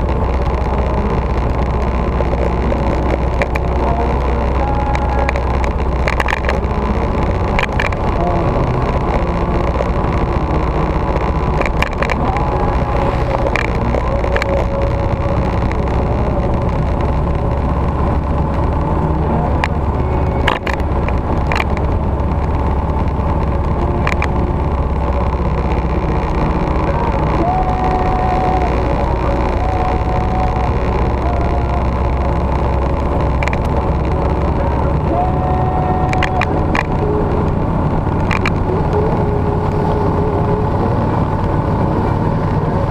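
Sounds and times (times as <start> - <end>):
motorcycle engine running: 0.0 - 42.9
road noise: 0.0 - 42.9
wind rumble: 0.0 - 42.9.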